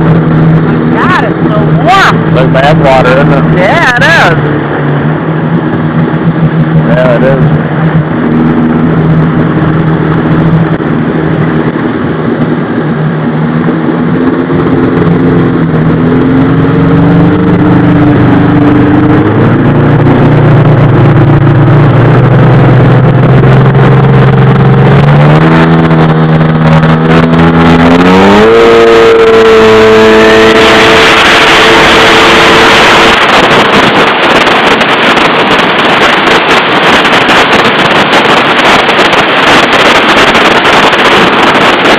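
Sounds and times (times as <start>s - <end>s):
jet ski engine revving: 0.0s - 41.9s
rush of wind and water: 0.0s - 41.9s.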